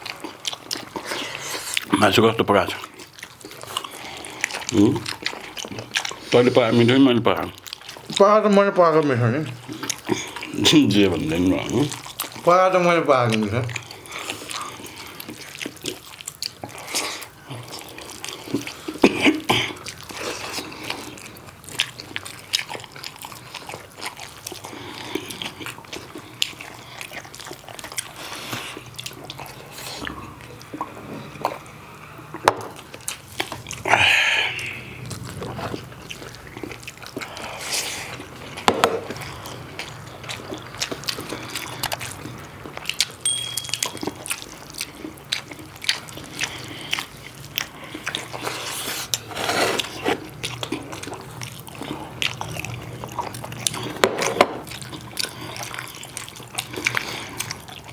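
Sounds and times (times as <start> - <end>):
wet chewing and lip smacks: 0.0 - 57.9.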